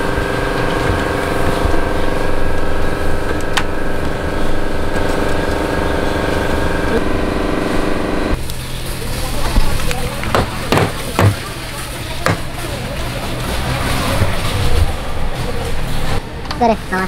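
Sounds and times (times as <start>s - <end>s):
engine idling: 0.0s - 16.2s.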